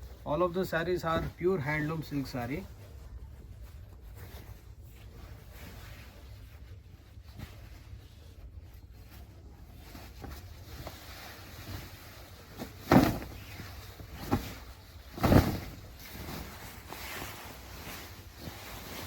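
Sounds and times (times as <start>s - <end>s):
silk fabric rustling: 0.0s - 19.0s.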